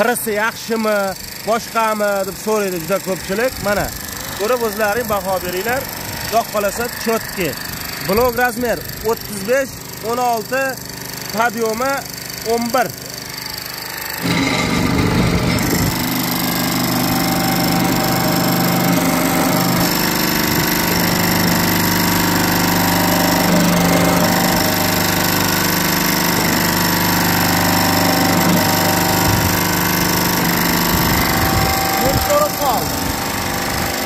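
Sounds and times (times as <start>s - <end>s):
hydraulic press pump droning: 0.0s - 34.0s.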